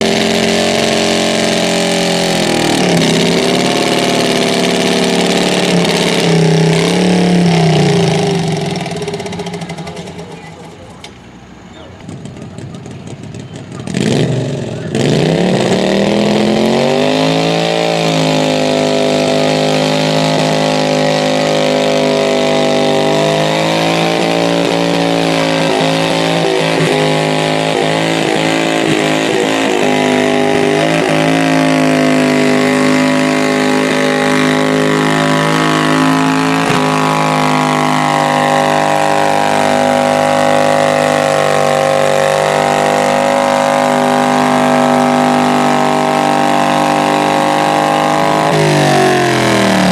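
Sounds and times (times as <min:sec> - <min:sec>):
tractor engine revving hard: 0:00.0 - 0:49.9.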